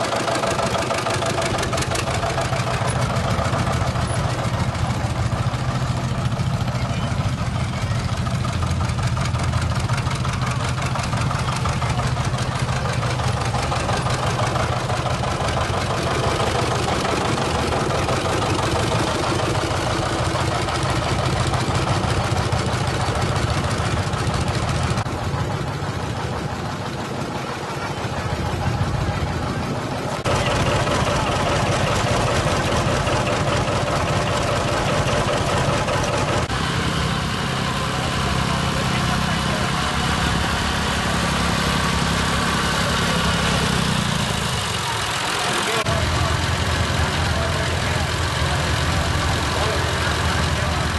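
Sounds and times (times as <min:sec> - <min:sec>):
tractor engines running slowly: 0:00.0 - 0:50.9.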